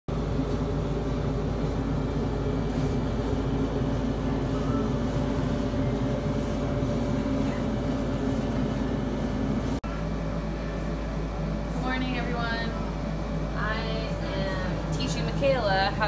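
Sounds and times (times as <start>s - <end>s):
ventilation fan drone: 0.1s - 16.0s.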